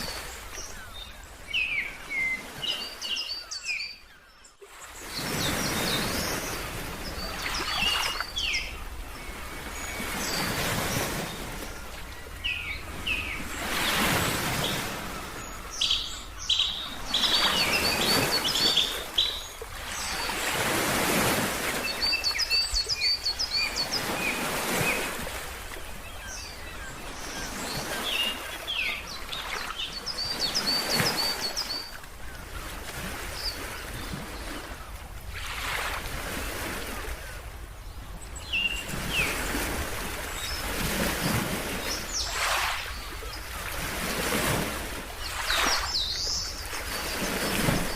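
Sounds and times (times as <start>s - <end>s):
birds chirping: 0.0s - 35.0s, 36.8s - 47.9s
ocean waves washing: 4.7s - 47.9s.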